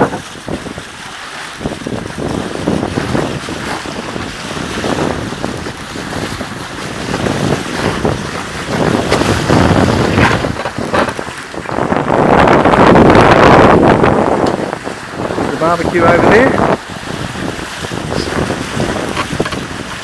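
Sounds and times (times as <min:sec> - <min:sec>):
water rushing along hulls: 0:00.0 - 0:20.0
wind buffeting microphone: 0:00.0 - 0:20.0.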